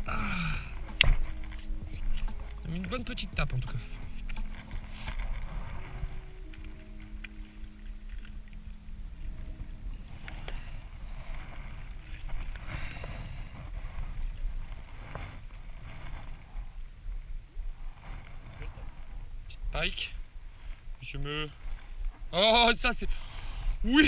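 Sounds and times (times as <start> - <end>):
rustling: 0.0 - 23.8
wind rumbling on microphone: 0.0 - 24.0.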